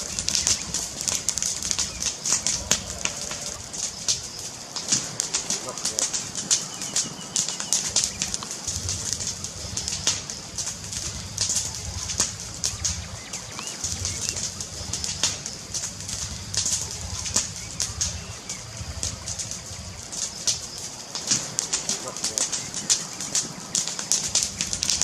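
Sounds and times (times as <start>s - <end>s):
fireplace crackling: 0.0s - 25.0s
low fluttering rumble: 0.0s - 25.0s.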